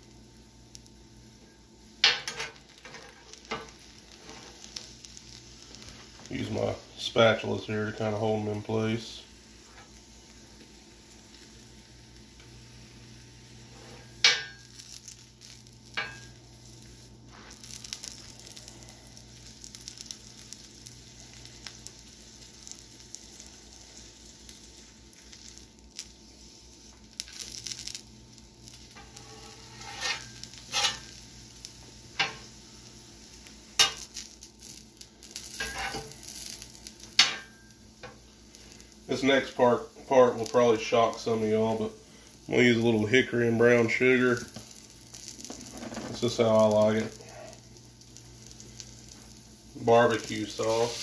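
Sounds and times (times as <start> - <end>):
sausage sizzling on a griddle: 0.0 - 51.0.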